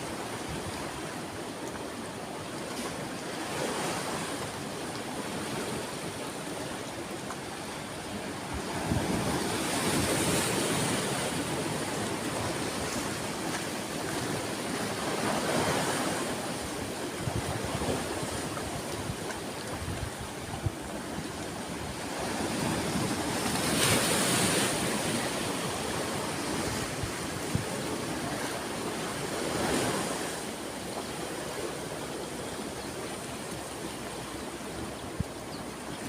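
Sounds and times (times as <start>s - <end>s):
sea waves breaking: 0.0s - 36.0s.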